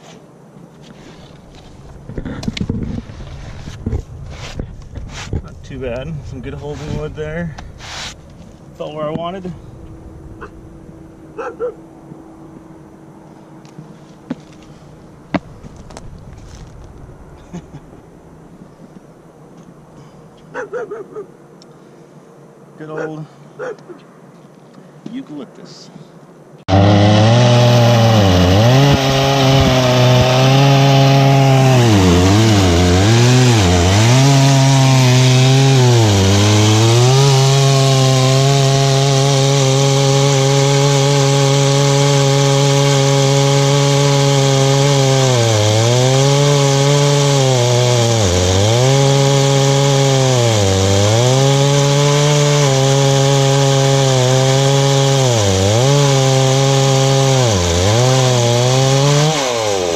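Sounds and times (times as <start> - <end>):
chainsaw cutting wood: 0.9 - 5.8, 6.4 - 12.8, 13.6 - 17.9, 26.7 - 59.9.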